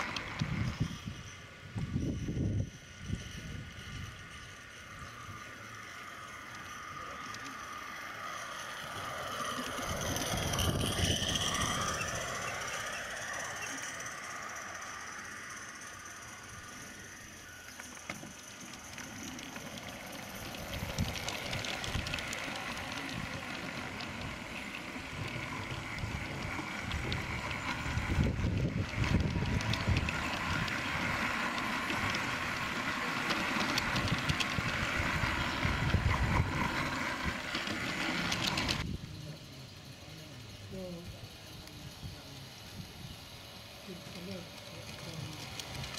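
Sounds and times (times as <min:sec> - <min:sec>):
model train wheels clattering: 0:00.0 - 0:45.9.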